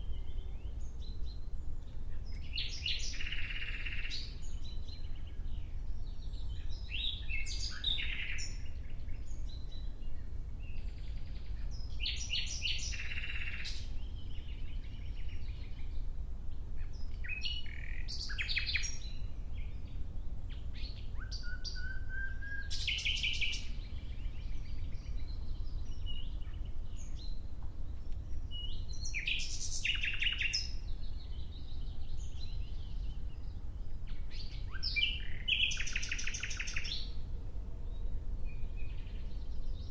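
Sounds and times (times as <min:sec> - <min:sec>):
nightingale singing: 0:00.0 - 0:16.1, 0:16.8 - 0:37.2.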